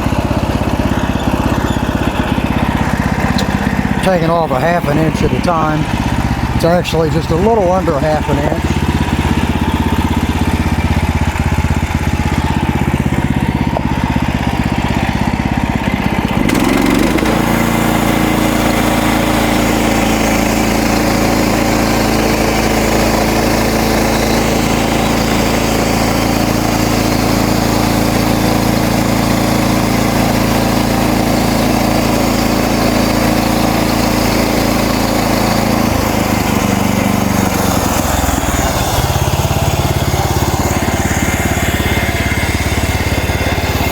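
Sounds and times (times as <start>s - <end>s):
band saw blade cutting log: 0.0s - 43.9s
sawmill engine running: 0.0s - 43.9s.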